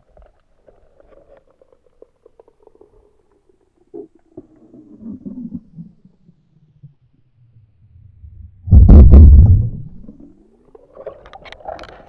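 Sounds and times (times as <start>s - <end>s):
underwater gurgling rumble: 0.0s - 12.0s.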